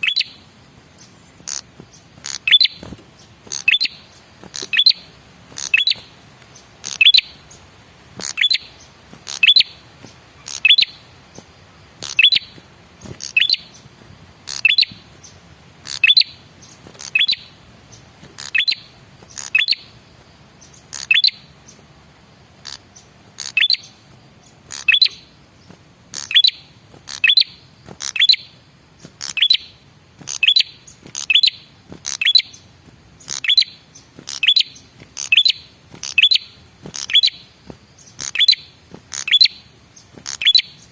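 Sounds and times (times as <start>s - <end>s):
bird chirping call notes: 0.0s - 21.9s, 22.5s - 28.6s, 29.2s - 40.9s.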